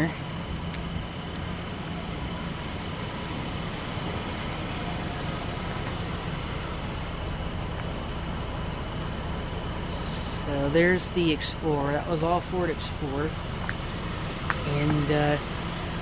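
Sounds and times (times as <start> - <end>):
crickets chirping: 0.0 - 16.0
vehicle engine idling: 0.0 - 16.0.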